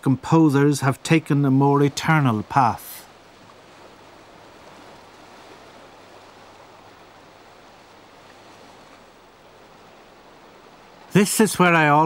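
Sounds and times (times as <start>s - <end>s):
distant sea surf: 0.0s - 12.0s.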